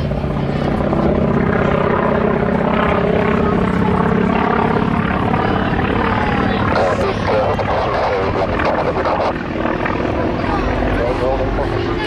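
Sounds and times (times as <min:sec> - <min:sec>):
radial engine and propeller: 0:00.0 - 0:12.0.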